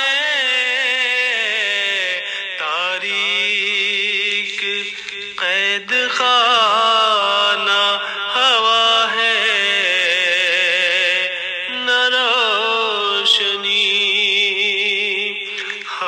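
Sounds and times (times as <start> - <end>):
person chanting mournful melody: 0.0 - 16.0.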